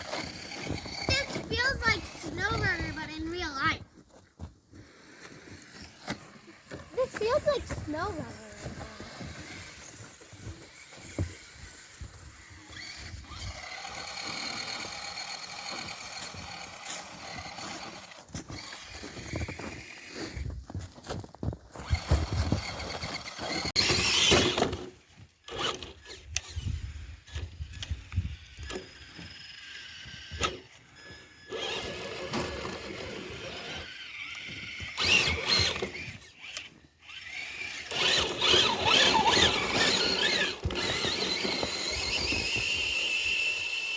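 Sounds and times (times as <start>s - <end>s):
tyres crackling through snow: 0.0s - 26.6s, 29.8s - 43.9s
electric motors and gears whining: 0.0s - 43.9s.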